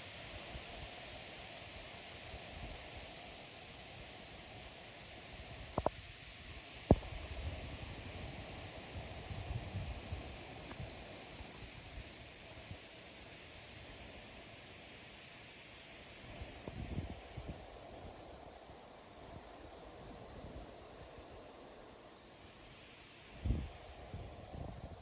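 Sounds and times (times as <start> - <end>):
insects humming: 0.0 - 25.0
wind through trees: 0.0 - 25.0.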